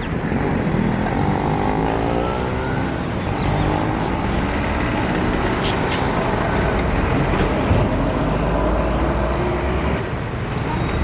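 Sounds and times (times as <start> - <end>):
locomotive wheels rumbling on track: 0.0 - 11.0.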